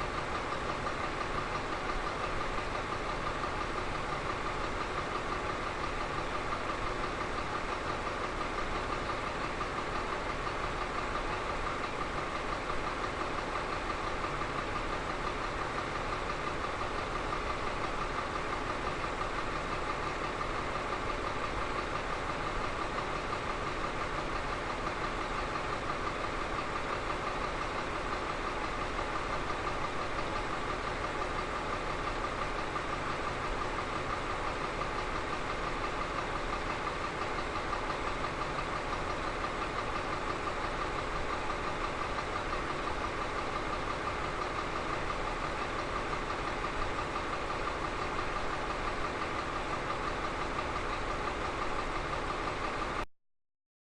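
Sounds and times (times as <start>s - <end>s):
diesel engine running steadily: 0.0s - 53.1s.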